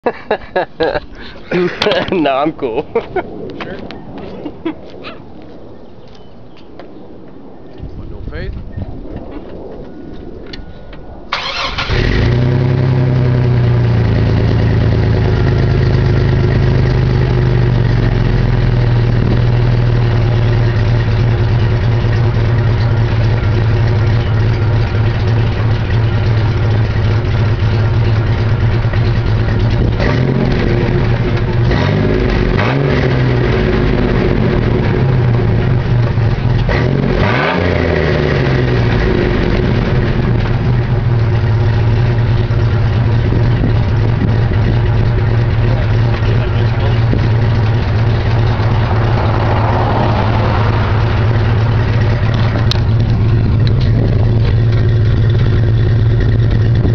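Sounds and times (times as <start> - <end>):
car engine starting and idling: 11.3 - 56.9
engine revving: 11.3 - 56.9.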